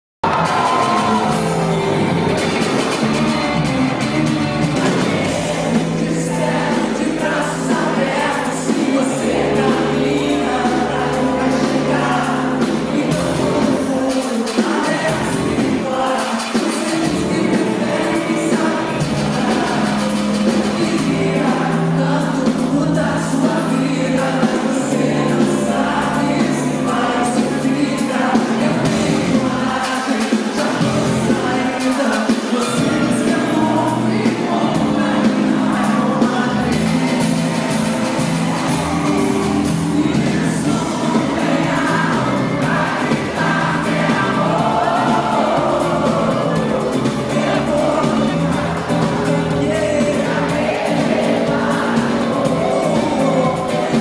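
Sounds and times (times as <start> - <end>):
bass line: 0.2 - 14.1, 14.9 - 16.0, 16.9 - 29.8, 30.8 - 31.7, 32.7 - 54.0
live band with singing: 0.2 - 54.0.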